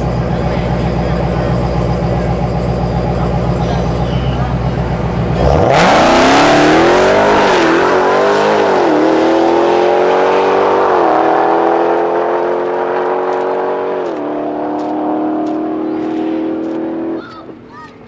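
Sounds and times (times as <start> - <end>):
car engine at full throttle: 0.0 - 17.6.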